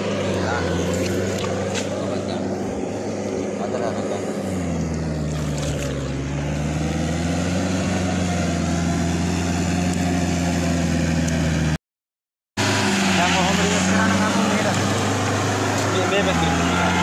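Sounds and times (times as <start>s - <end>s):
tractor diesel engine droning: 0.0s - 11.8s, 12.6s - 17.0s.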